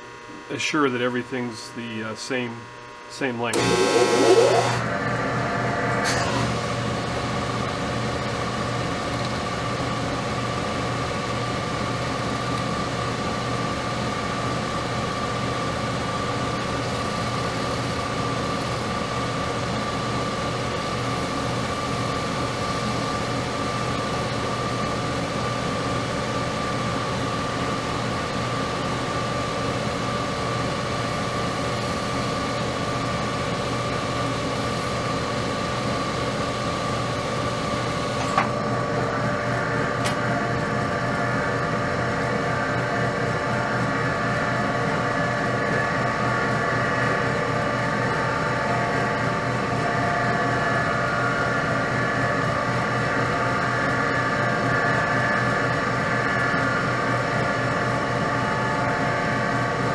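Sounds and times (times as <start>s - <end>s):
metal lathe whining: 3.5s - 5.1s, 6.0s - 15.5s, 16.9s - 59.9s.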